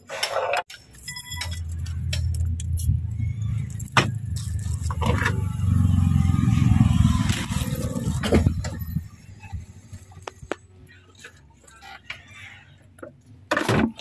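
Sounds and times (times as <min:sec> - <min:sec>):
low engine rumble: 0:01.4 - 0:13.3.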